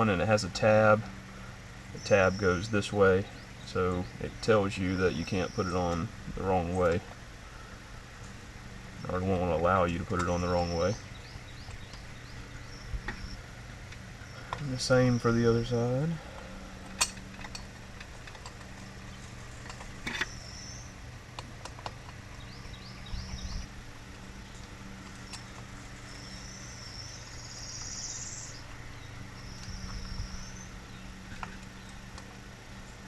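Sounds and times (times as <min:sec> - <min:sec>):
birds chirping: 0:00.0 - 0:33.0
steady low hum: 0:00.0 - 0:33.0.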